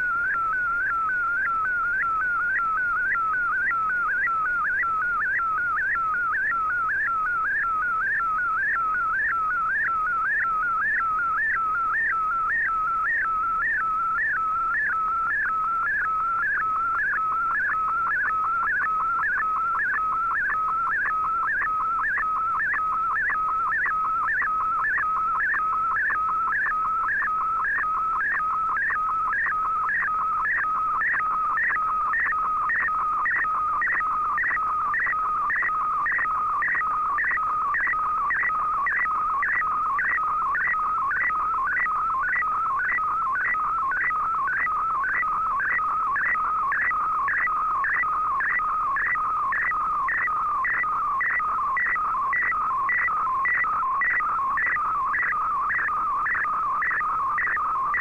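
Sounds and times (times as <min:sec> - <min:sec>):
warbling data tone: 0:00.0 - 0:58.0.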